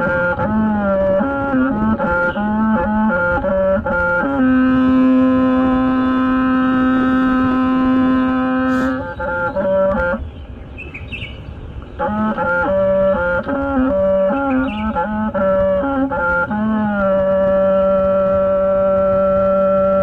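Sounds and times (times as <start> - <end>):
bamboo pipe melody: 0.0 - 10.4, 11.8 - 20.0.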